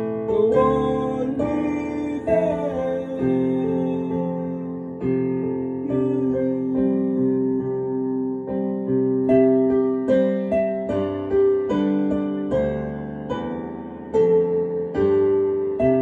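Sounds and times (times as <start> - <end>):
digital piano chords and melody: 0.0 - 16.0.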